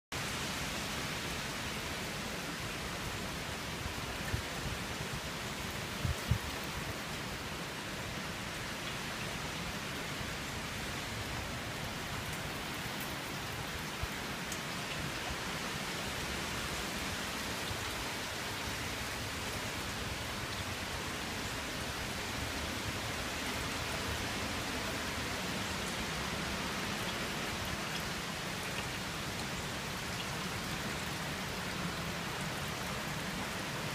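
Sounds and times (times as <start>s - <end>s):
rain on a shingle roof: 0.1s - 33.9s.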